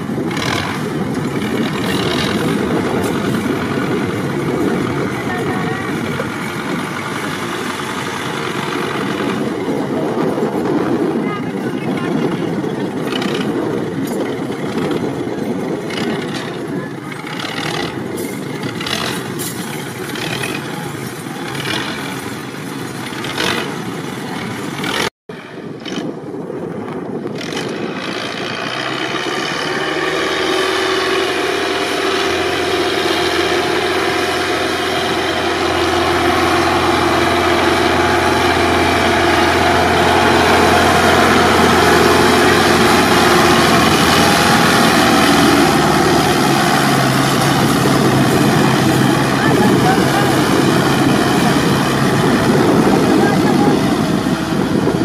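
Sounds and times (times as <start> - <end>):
tractor diesel engine labouring: 0.0 - 55.0.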